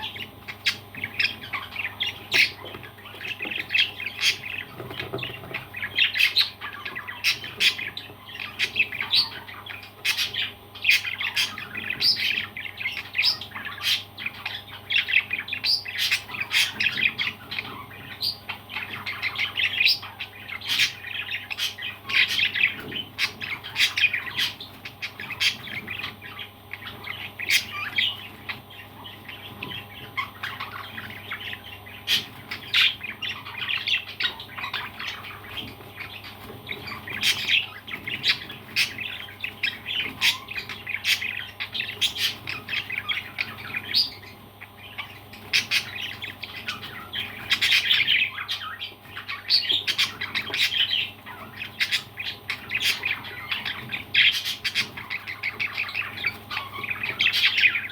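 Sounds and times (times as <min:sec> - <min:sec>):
parrots chirping and squawking: 0:00.0 - 0:57.9.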